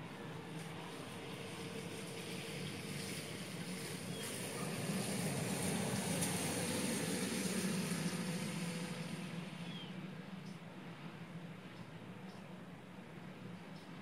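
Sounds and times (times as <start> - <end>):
broad rushing noise: 0.0 - 14.0
engine hum: 0.0 - 14.0.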